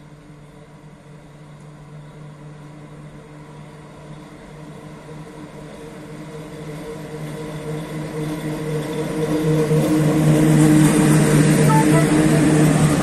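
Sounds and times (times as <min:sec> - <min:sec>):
electric train humming and rolling: 0:00.0 - 0:13.0.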